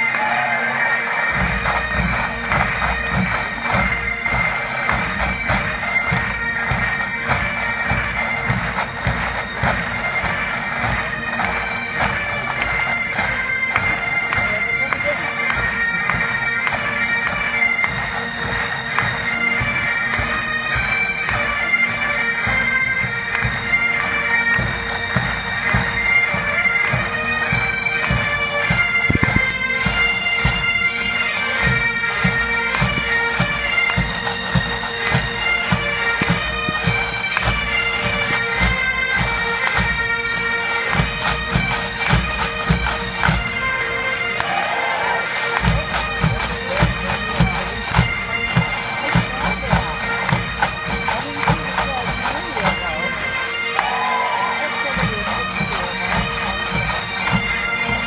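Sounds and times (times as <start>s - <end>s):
bagpipes playing melody with drone: 0.0s - 58.0s
drums beating march rhythm: 0.0s - 58.0s.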